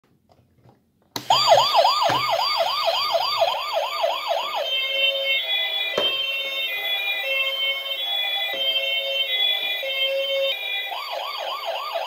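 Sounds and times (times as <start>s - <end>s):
toy electronic siren wailing: 1.3s - 12.0s.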